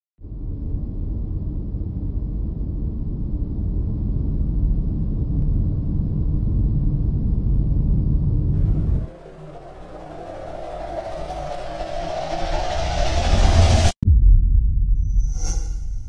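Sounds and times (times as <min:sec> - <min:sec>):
deep rumbling sound effect: 0:00.2 - 0:16.0.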